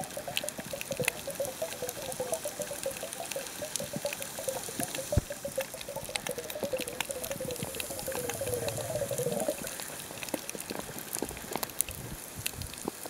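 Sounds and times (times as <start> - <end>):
sharp underwater clicks: 0.0 - 13.0
underwater bubbling: 0.0 - 13.0.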